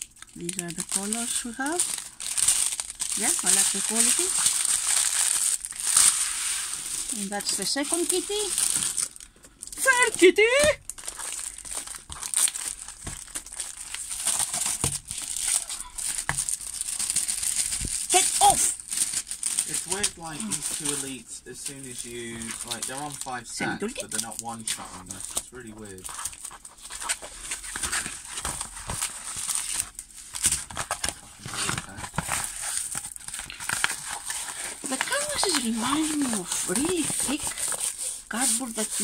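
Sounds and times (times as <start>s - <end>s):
plastic film crinkling: 0.0s - 39.0s.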